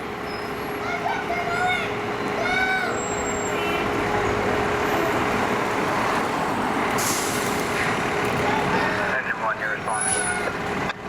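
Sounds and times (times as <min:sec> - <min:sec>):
fire engine road noise: 0:00.0 - 0:11.0.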